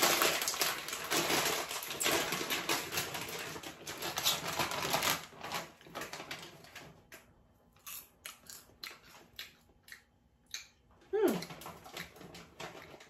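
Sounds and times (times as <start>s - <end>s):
plastic snack bag crinkling: 0.0s - 9.6s, 11.4s - 13.0s.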